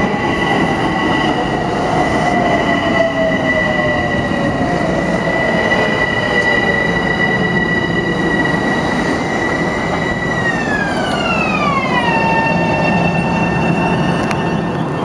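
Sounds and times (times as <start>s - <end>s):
electric train pulling away: 0.0s - 15.0s.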